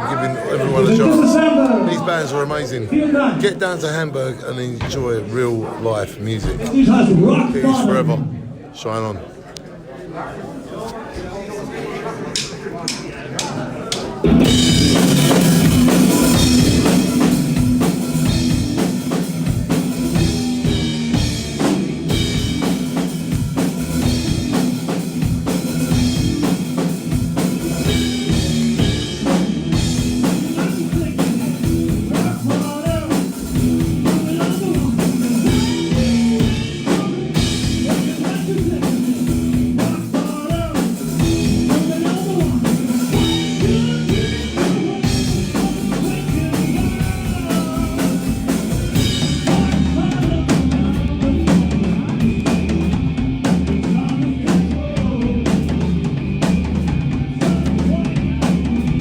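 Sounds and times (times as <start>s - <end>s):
drum kit beat: 0.0s - 2.0s, 6.4s - 8.1s, 12.4s - 59.0s
loud electric guitars: 0.0s - 3.6s, 14.1s - 59.0s.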